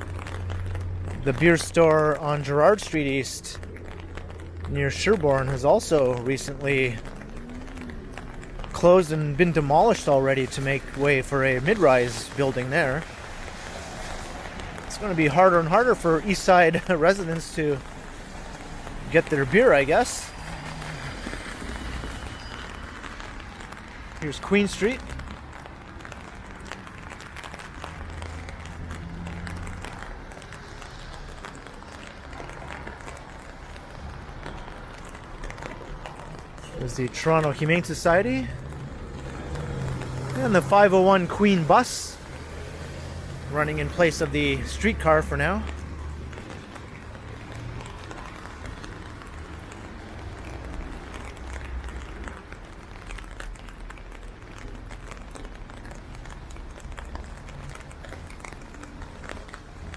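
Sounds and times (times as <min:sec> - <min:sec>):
low constant rumble: 0:00.0 - 0:22.4, 0:32.9 - 0:59.9
steady rain falling: 0:00.0 - 0:59.9
vehicle engine hum: 0:00.0 - 0:59.9.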